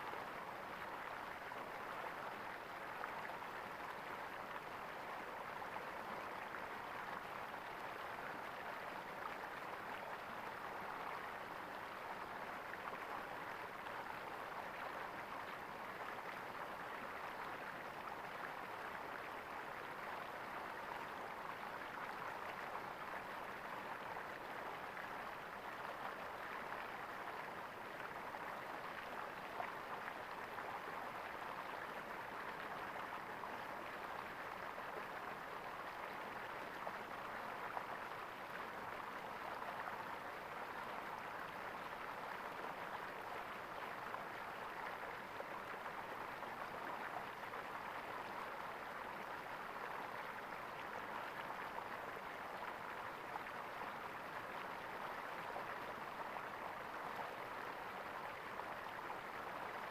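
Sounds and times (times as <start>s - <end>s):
small stream gurgling: 0.0s - 59.9s.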